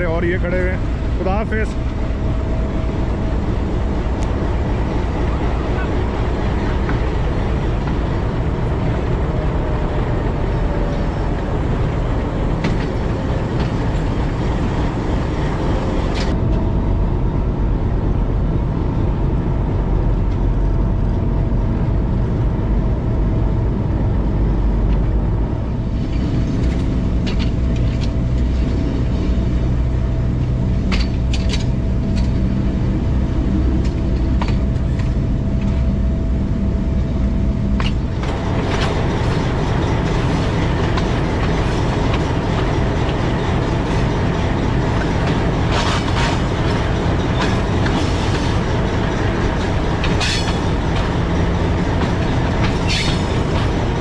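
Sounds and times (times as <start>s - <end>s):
diesel locomotive engine drone: 0.0s - 54.0s
steady whine: 0.0s - 54.0s.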